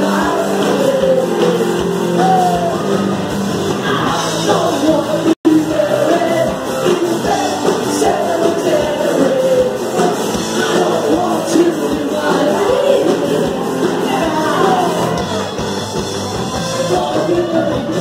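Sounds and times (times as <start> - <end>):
electric guitar: 0.0 - 18.0
live rock band playing: 0.0 - 18.0.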